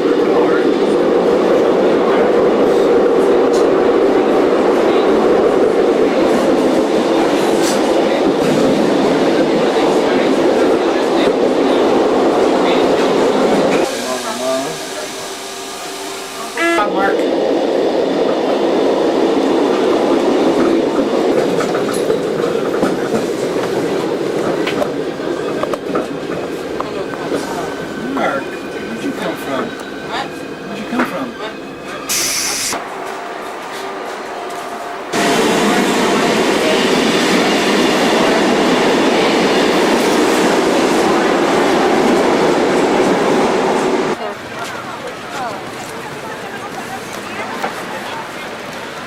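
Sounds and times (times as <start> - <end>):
train rumbling in motion: 0.0 - 49.0.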